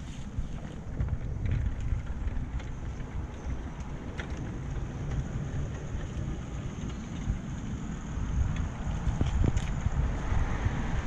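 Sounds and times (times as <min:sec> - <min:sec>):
wheels rumbling on rail: 0:00.0 - 0:11.0
wind buffeting microphone: 0:00.0 - 0:11.0.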